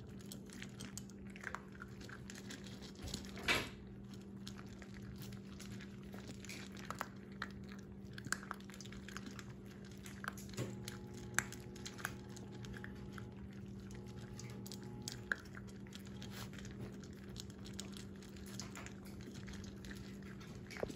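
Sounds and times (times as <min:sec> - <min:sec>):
puppies crunching kibble: 0:00.0 - 0:20.9
steady low hum: 0:00.0 - 0:20.9.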